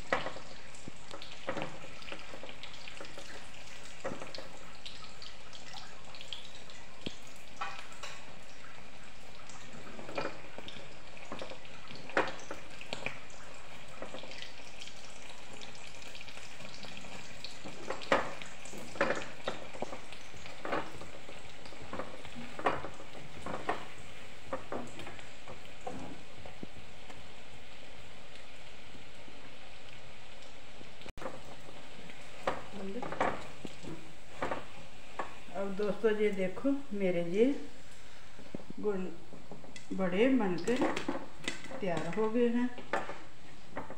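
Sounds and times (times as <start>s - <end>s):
food sizzling in hot oil: 0.0s - 43.9s.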